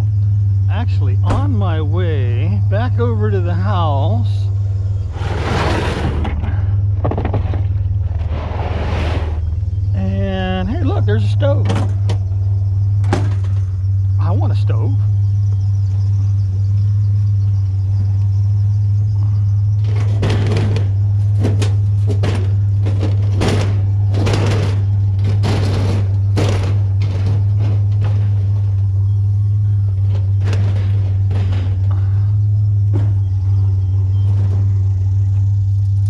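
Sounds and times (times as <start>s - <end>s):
truck engine and road drone: 0.0s - 36.0s
knocks and rattles: 4.6s - 8.5s, 9.2s - 36.0s.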